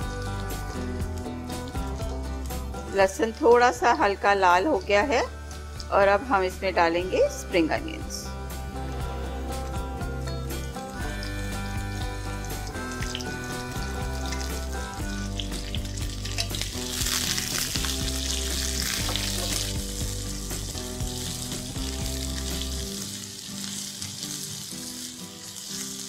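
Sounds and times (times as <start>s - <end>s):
onions and garlic sizzling: 0.0s - 7.5s, 8.3s - 26.0s
background music: 0.0s - 26.0s.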